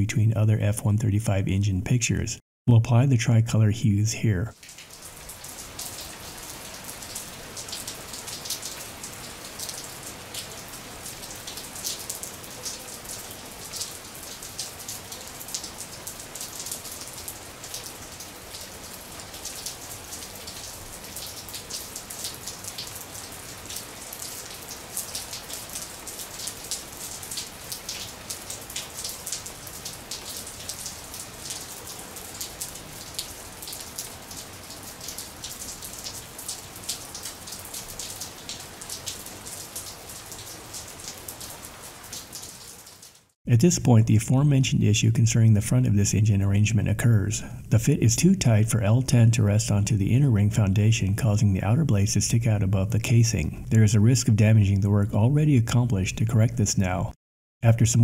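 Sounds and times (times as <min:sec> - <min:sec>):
rain-like patter: 0:04.2 - 0:57.0.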